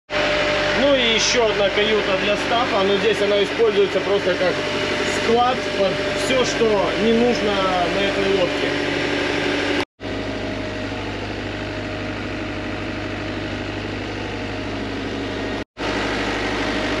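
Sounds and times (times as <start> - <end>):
engine-room machinery droning: 0.1 - 17.0.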